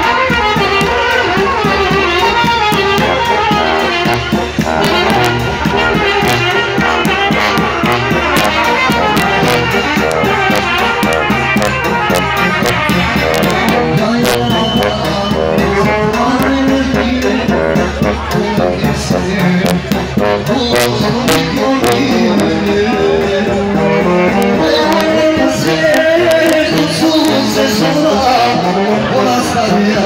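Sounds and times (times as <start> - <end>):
bass drum: 0.0 - 28.8
bass tuba: 0.0 - 30.0
tenor horns: 0.0 - 30.0
trumpet: 0.0 - 30.0.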